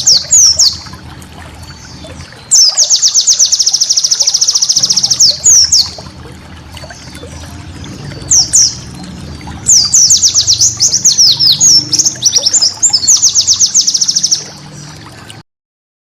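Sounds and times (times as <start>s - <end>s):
white-eye bird song: 0.0s - 6.2s, 6.8s - 15.4s.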